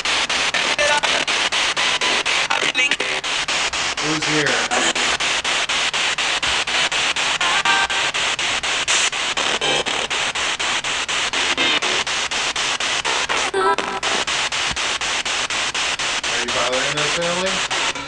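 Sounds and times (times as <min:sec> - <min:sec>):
chopped radio static hiss: 0:00.0 - 0:18.0
fragments of broadcast voices: 0:00.1 - 0:18.0.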